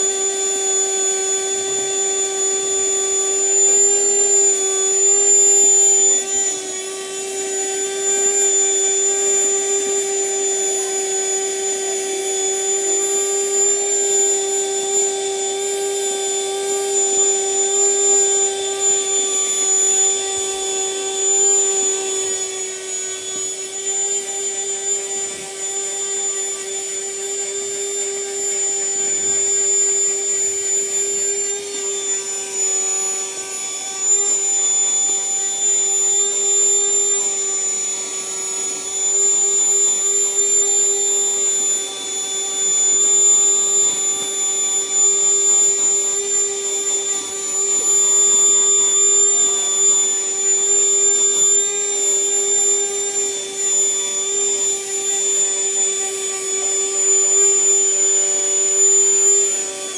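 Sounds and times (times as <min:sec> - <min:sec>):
car vacuum cleaner running: 0:00.0 - 0:59.9.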